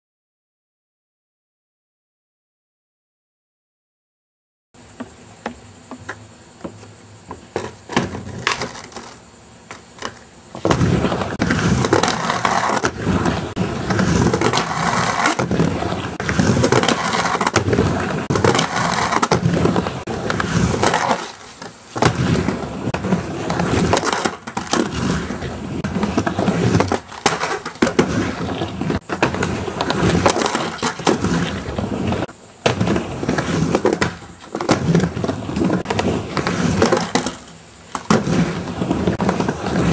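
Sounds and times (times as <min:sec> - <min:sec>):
skateboard clacks: 0:04.8 - 0:39.9
skateboard rolling: 0:04.8 - 0:39.9
metal trucks scraping concrete: 0:07.4 - 0:39.9.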